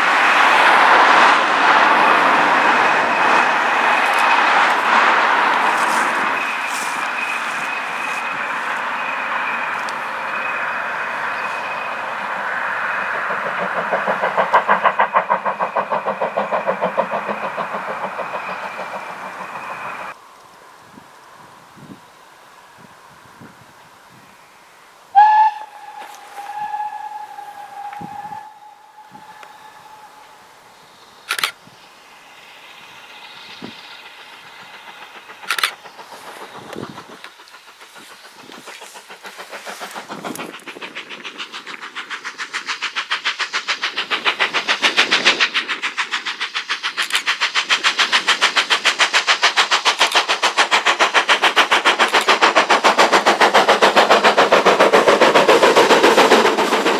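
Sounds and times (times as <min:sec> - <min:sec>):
steam exhaust beats: 0:00.0 - 0:24.1, 0:24.9 - 0:56.9
train mechanical drone: 0:00.0 - 0:56.9.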